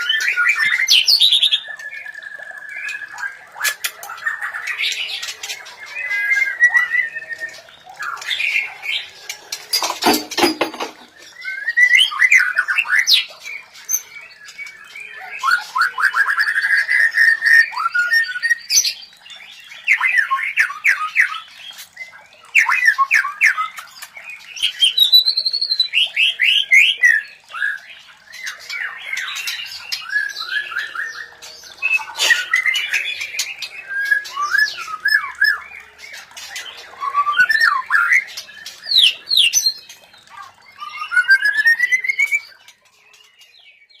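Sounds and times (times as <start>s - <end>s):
birds whistling: 0.0s - 19.0s, 22.4s - 44.0s
birds squawking chatter: 0.0s - 44.0s.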